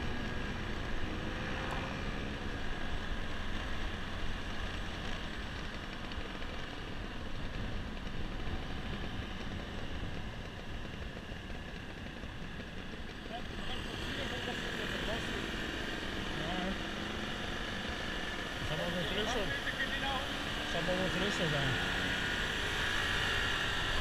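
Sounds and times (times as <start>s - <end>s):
scooter engine running: 0.0s - 24.0s
wind and road noise: 0.0s - 24.0s.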